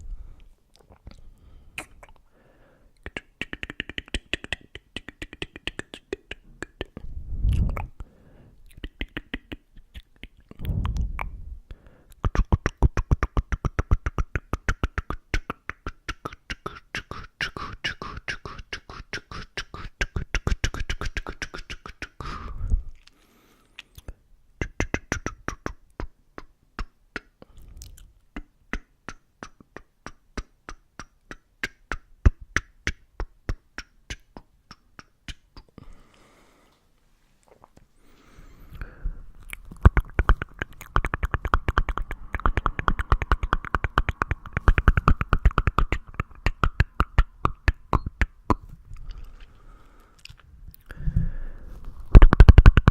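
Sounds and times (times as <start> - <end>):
mouth clicks: 0.4 - 2.3, 3.0 - 36.2, 38.6 - 52.9.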